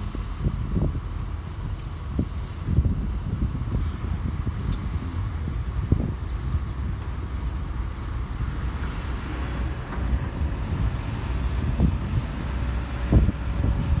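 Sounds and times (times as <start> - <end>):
diesel excavator engines rumbling: 0.0 - 14.0.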